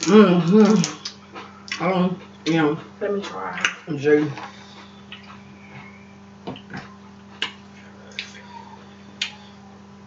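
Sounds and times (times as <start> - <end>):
wet eating smacks and clicks: 0.0 - 5.9, 6.5 - 8.6, 9.2 - 9.5
steady low hum: 0.0 - 10.0.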